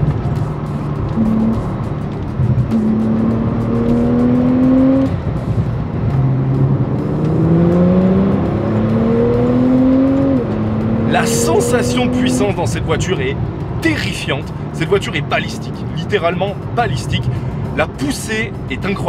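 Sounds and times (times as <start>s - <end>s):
car engine accelerating hard: 0.0s - 18.9s.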